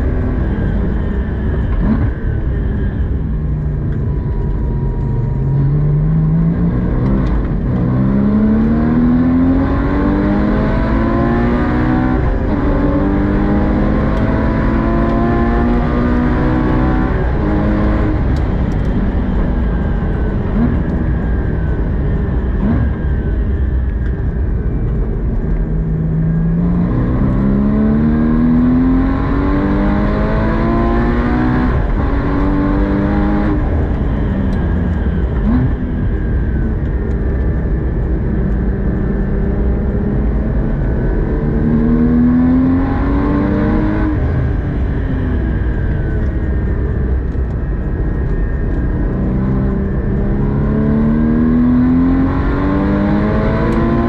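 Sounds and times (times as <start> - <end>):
car engine at full throttle: 0.0 - 54.0
road and tyre rumble: 0.0 - 54.0.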